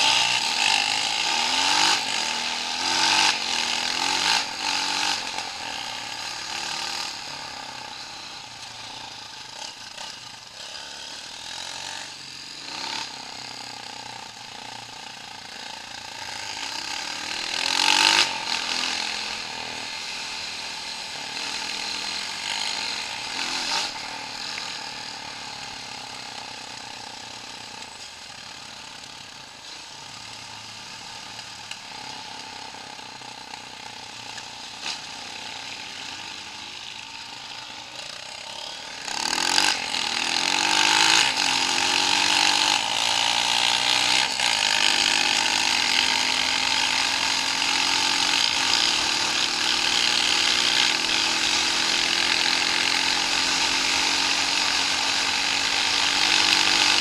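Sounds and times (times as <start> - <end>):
off-road vehicle engine revving: 0.0 - 28.9, 29.6 - 57.0.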